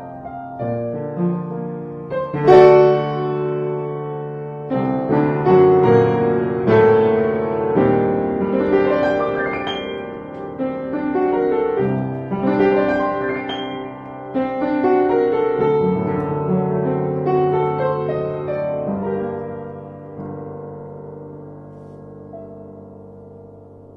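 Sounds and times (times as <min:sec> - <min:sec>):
upright piano waltz: 0:00.0 - 0:23.9.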